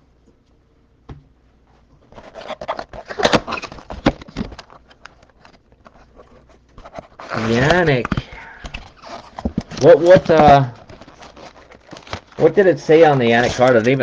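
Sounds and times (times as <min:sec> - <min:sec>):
plastic wrapper crinkling and tearing: 0:02.1 - 0:06.2, 0:06.8 - 0:14.0.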